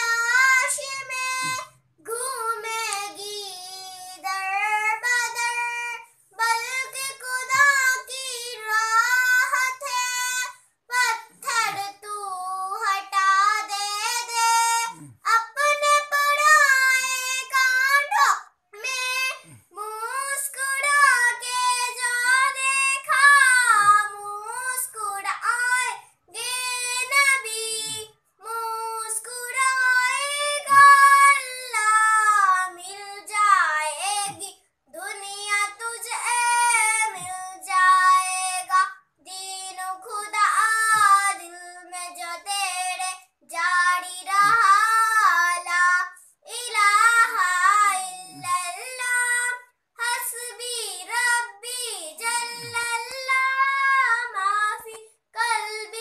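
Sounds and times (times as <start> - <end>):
girl singing unaccompanied: 0.0 - 56.0.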